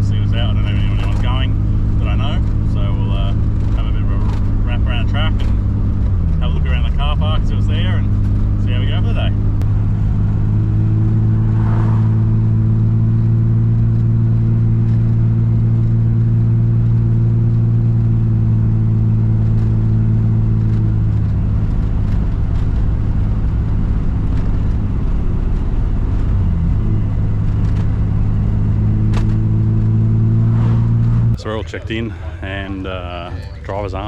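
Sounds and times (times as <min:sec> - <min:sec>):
car engine droning at cruise: 0:00.0 - 0:34.0.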